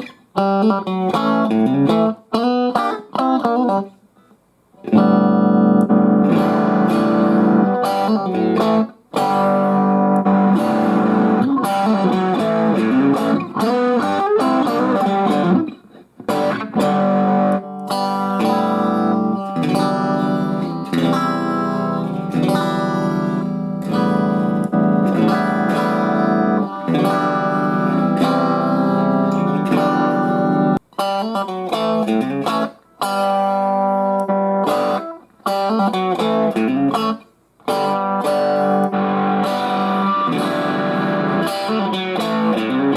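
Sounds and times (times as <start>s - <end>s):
electric guitar chords: 0.0s - 3.9s, 4.8s - 42.9s.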